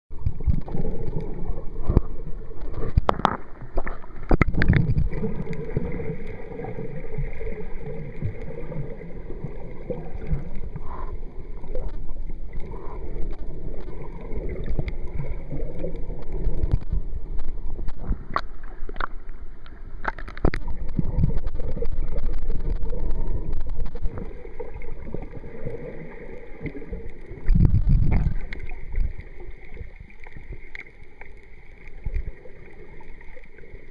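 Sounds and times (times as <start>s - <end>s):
underwater rush of water: 0.1s - 33.9s.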